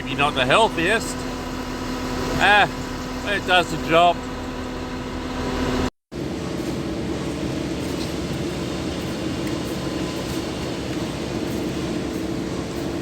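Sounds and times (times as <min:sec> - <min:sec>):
concrete mixer truck running: 0:00.0 - 0:13.0.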